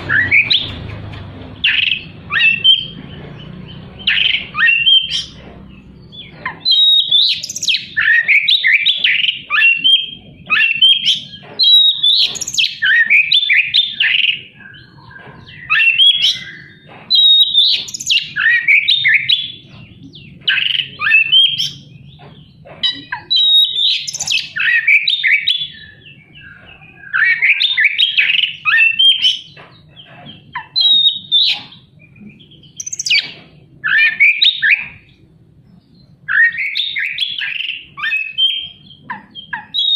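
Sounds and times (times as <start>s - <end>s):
bird singing harsh rapid phrases: 0.0s - 39.9s.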